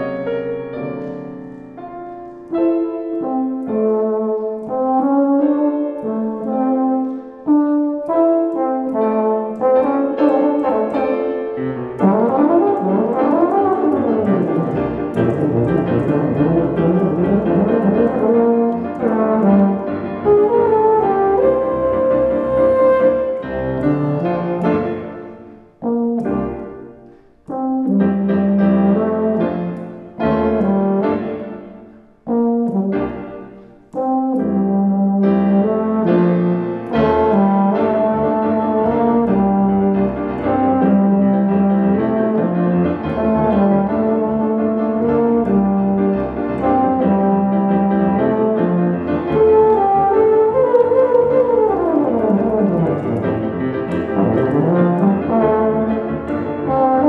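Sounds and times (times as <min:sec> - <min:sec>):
euphonium playing: 0:00.0 - 0:57.0
piano playing: 0:00.0 - 0:57.0.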